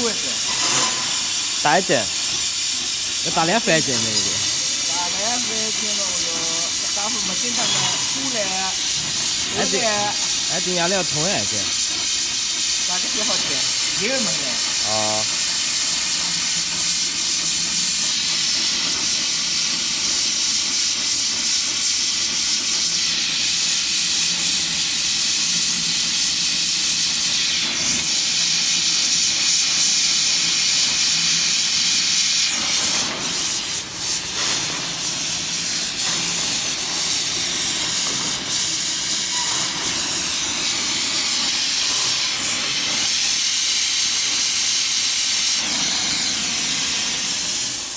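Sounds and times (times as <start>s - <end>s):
welding torch flame hissing: 0.0s - 47.9s.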